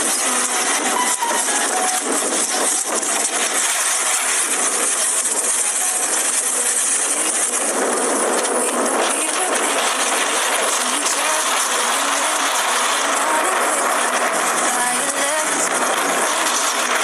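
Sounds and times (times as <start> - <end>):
water rushing and spraying: 0.0 - 17.0.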